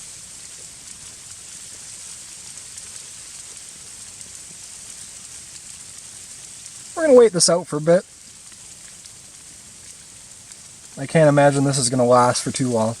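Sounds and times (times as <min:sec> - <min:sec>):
faint light pattering: 0:00.0 - 0:13.0
snow hissing on tarp: 0:00.0 - 0:13.0.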